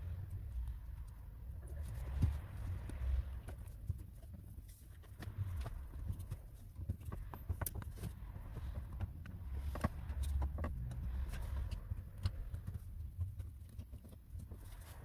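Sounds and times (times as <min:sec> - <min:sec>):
steady low rumble: 0:00.0 - 0:15.0
hands handling speaker and wiring: 0:01.0 - 0:15.0.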